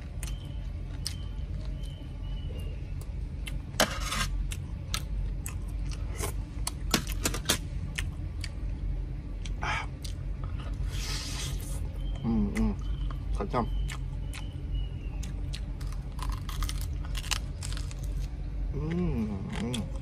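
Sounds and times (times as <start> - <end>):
crunching and chewing crispy food: 0.0 - 20.0
steady low hum: 0.0 - 20.0.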